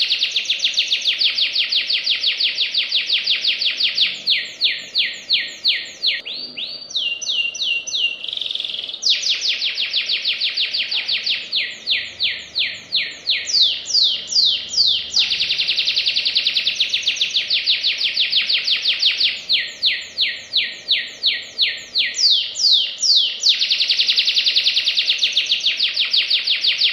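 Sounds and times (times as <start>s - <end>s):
canary singing with rapid trills: 0.0s - 26.9s.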